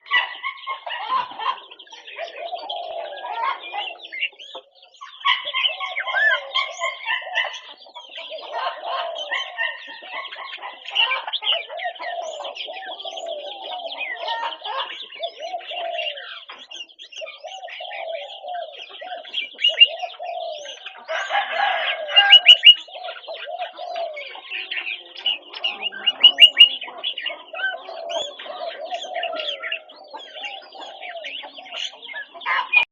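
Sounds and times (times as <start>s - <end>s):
bulbuls chirping and whistling: 0.0s - 32.9s
repeated lower bird calls: 0.0s - 32.9s.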